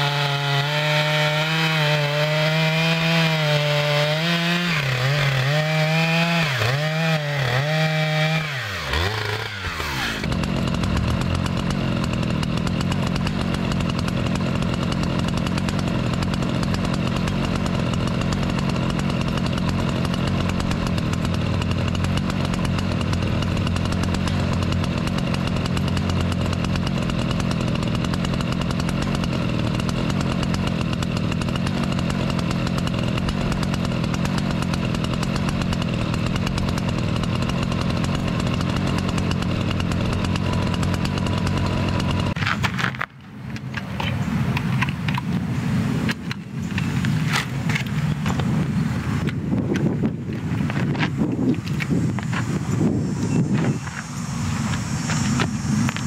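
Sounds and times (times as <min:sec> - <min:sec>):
chainsaw cutting log: 0:00.0 - 0:56.0
steady engine sound: 0:00.0 - 0:56.0.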